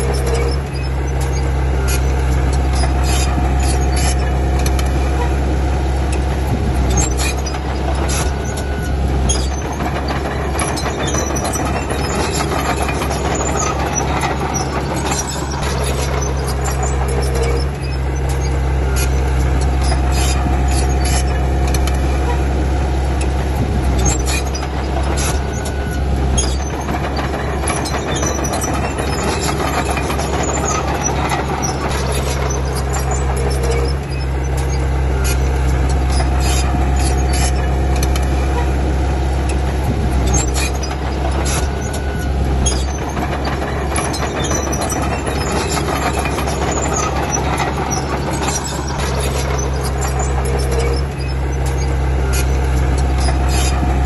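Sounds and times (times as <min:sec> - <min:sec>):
bulldozer diesel engine running: 0:00.0 - 0:54.0
steel tracks squeaking and clicking: 0:00.0 - 0:54.0.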